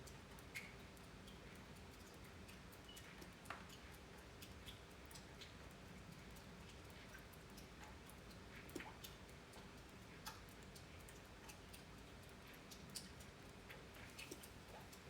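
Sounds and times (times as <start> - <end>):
raindrops ticking and tapping: 0.0 - 15.0.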